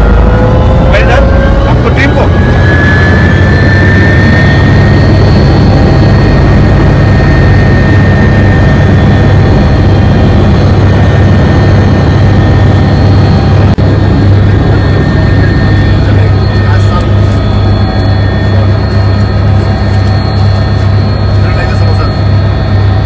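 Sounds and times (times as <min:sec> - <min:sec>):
helicopter turbine and rotor drone: 0:00.0 - 0:23.0
high whine: 0:00.0 - 0:23.0.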